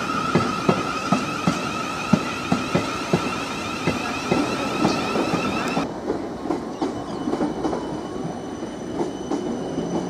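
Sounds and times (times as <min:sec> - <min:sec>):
electric train whine: 0:00.0 - 0:10.0
train wheels clacking over joints: 0:00.0 - 0:10.0.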